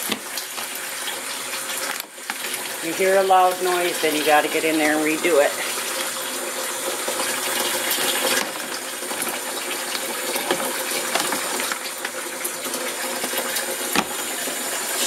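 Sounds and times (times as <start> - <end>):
water running into tub: 0.0 - 15.0.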